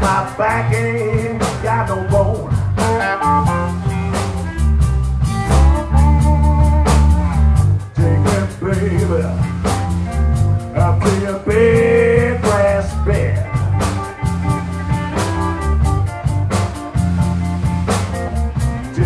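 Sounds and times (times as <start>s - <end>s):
drums: 0.0s - 19.0s
electric bass: 0.0s - 19.0s
live blues band playing: 0.0s - 19.0s
lead instrument long notes: 2.3s - 9.5s, 10.1s - 19.0s.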